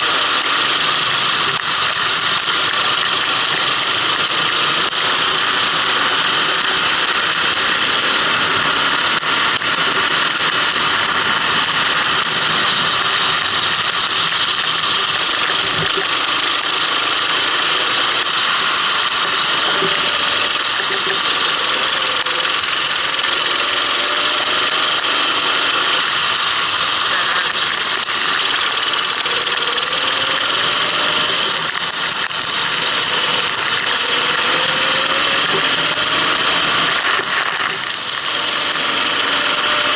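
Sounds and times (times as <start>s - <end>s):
kart engine running hard: 0.0s - 39.9s
steady rushing noise: 0.0s - 39.9s.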